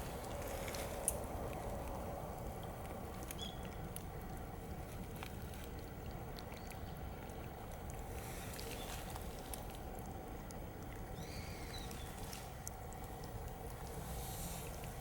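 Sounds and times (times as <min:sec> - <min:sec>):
water trickling under ice: 0:00.0 - 0:15.0.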